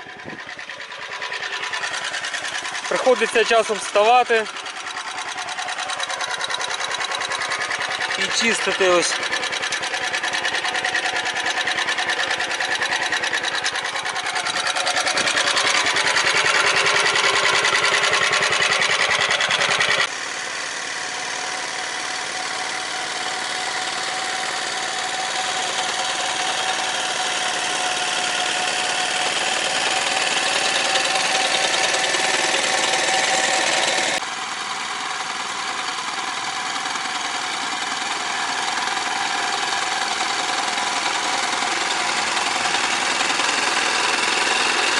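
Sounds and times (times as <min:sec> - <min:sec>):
walk-behind tractor engine running: 0:00.0 - 0:44.9.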